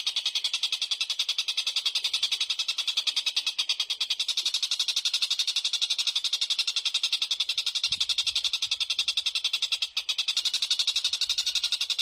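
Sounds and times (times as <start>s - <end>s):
small bird chattering: 0.0s - 12.0s.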